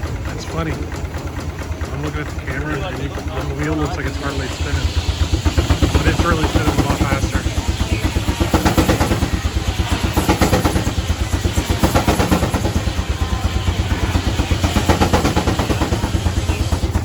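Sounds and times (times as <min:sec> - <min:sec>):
steam traction engine running: 0:00.0 - 0:17.0.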